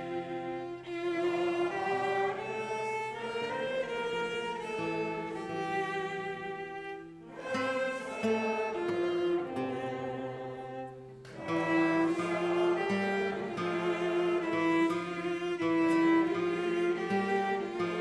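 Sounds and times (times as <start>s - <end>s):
bowed strings playing: 0.0s - 18.0s.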